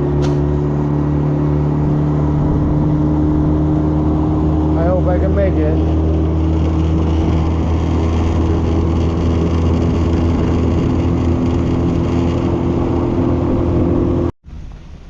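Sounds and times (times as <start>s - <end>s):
outboard motor running: 0.0s - 14.3s
rush of wind and water: 0.0s - 15.0s.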